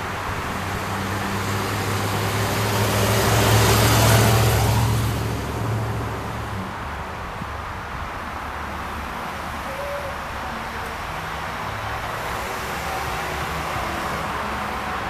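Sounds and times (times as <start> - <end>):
vehicle passing by: 0.0 - 7.7, 8.6 - 15.0.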